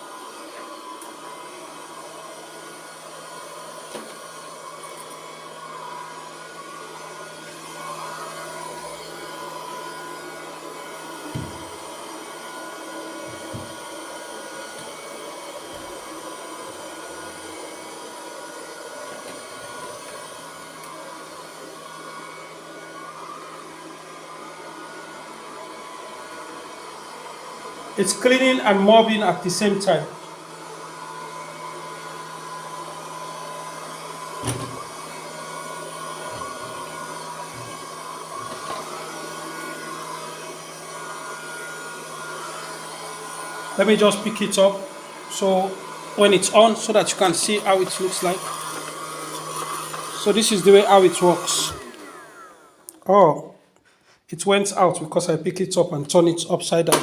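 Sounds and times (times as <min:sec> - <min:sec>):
robot vacuum mop whirring: 0:00.0 - 0:53.1.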